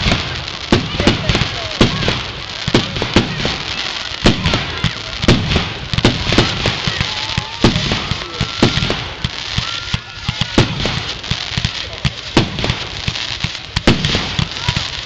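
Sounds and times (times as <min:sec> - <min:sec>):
fireworks bangs: 0:00.0 - 0:15.0
hiss and crackle of fireworks: 0:00.0 - 0:15.0.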